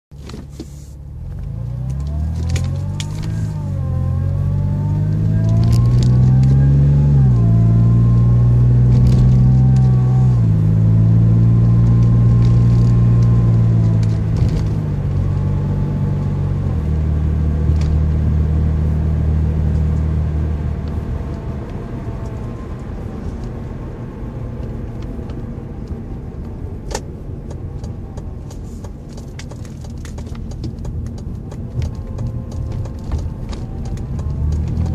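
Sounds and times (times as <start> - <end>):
car engine revving: 1.2 - 34.9.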